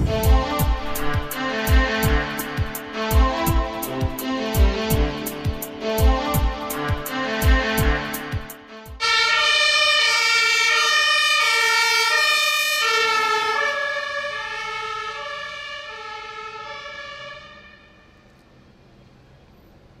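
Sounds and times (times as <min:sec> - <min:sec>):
two-tone siren passing: 0:00.0 - 0:18.6.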